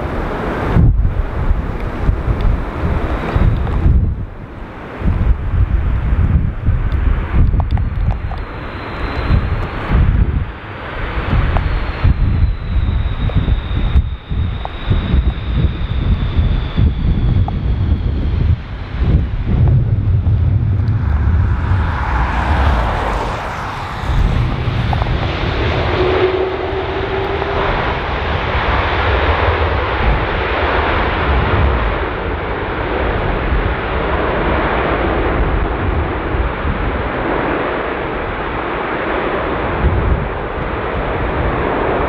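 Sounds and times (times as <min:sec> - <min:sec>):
jet engines reverse thrust: 0:00.0 - 0:42.0
wind rumbling on microphone: 0:00.0 - 0:42.0.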